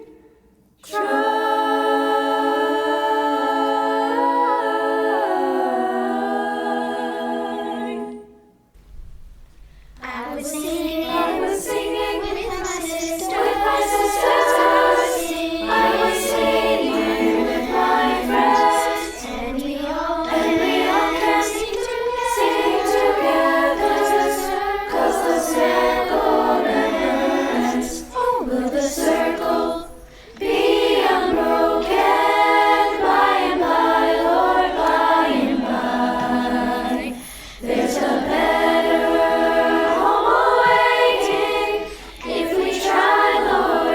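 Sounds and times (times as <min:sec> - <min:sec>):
girls' choir singing in harmony: 0:00.0 - 0:08.6, 0:10.0 - 0:43.9.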